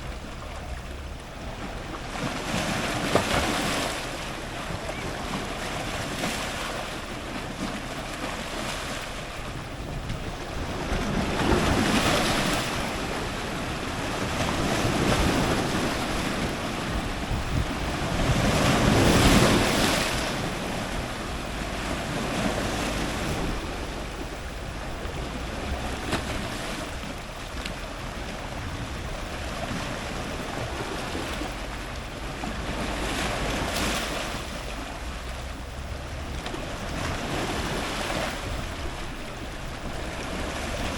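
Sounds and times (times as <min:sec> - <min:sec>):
ocean surf crashing on rocks: 0:00.0 - 0:40.9.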